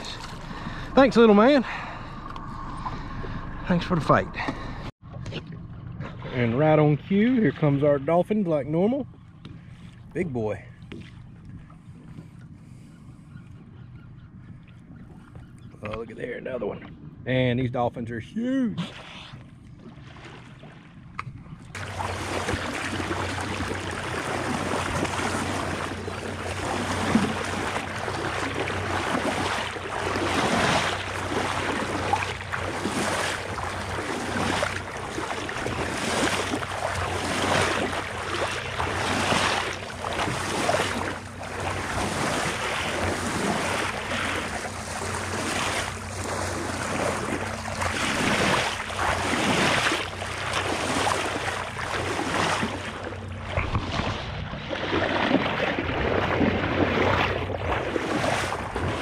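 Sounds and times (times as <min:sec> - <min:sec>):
water splashing against hull: 0:00.0 - 0:17.0, 0:18.7 - 0:59.0
boat motor running: 0:00.0 - 0:59.0.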